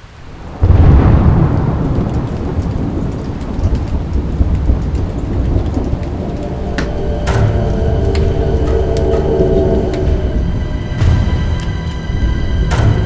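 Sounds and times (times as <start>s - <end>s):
steady rain: 0.0s - 13.0s
thunder clap and rumble: 0.2s - 13.0s.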